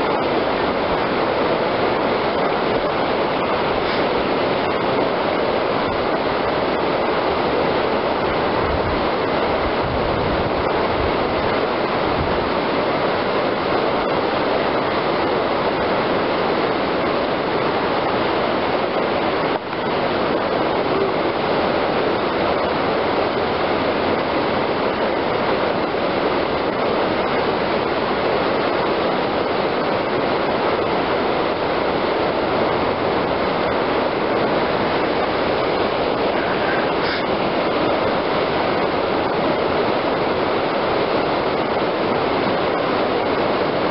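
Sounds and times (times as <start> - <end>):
whitewater rapids rushing: 0.0 - 43.9.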